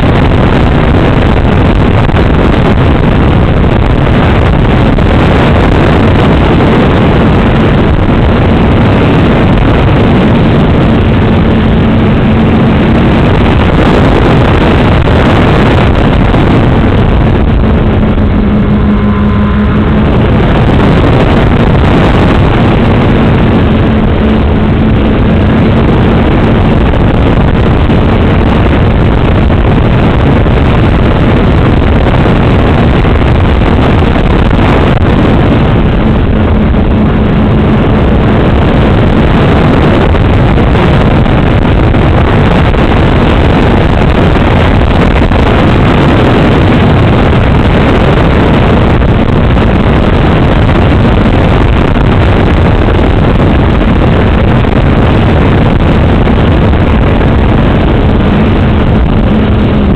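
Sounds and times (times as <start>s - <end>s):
rushing airflow: 0.0s - 59.9s.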